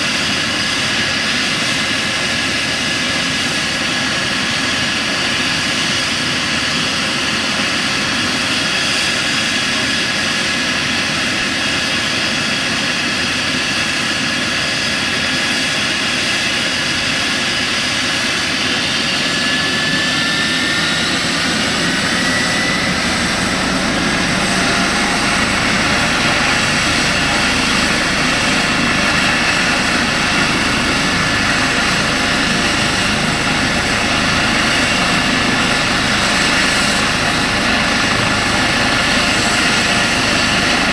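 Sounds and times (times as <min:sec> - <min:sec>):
helicopter rotor noise: 0:00.0 - 0:40.9
helicopter turbine whine: 0:00.0 - 0:40.9.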